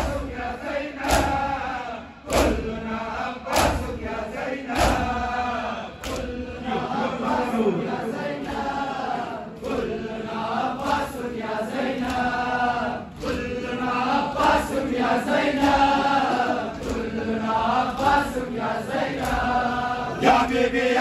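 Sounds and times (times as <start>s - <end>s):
men chanting a mourning lament: 0.0s - 21.0s.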